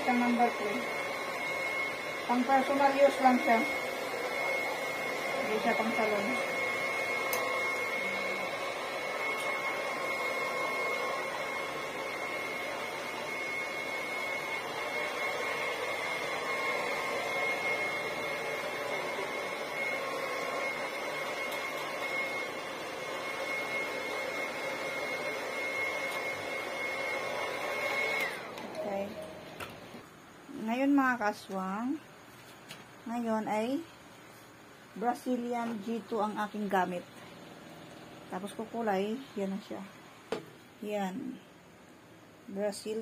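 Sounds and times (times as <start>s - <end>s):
hair dryer running: 0.0s - 30.0s, 35.0s - 40.5s.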